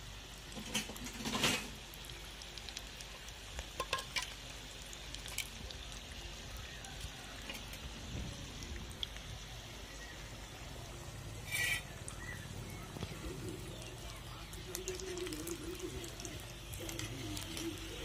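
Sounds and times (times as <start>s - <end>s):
oil bubbling and sizzling: 0.0s - 18.0s
oil crackles and pops: 0.0s - 18.0s.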